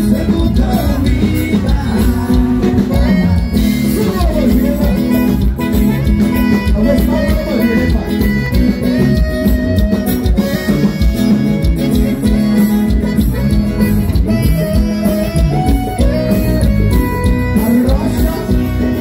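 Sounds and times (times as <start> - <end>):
bass line: 0.0 - 19.0
guitar: 0.0 - 19.0
live band music: 0.0 - 19.0
steady beat: 0.0 - 19.0.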